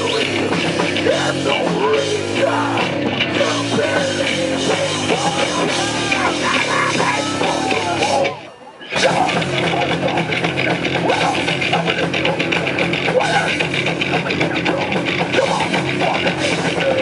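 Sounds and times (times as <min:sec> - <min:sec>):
heavy metal band playing live: 0:00.0 - 0:17.0.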